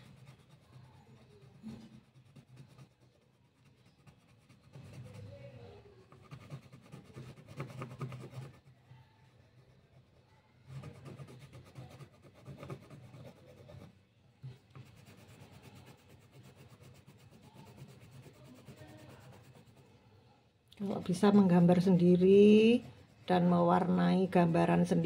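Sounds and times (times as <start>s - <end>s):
pencil scribbling on paper: 0.0s - 20.0s, 20.8s - 25.0s.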